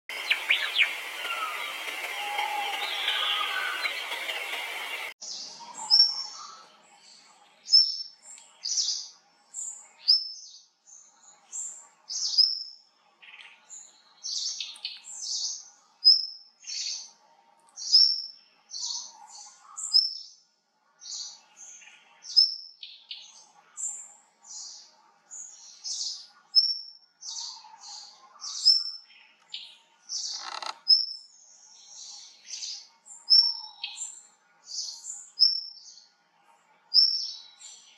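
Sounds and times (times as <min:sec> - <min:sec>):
small songbird singing: 0:00.1 - 0:20.4, 0:21.0 - 0:36.2, 0:36.8 - 0:37.9.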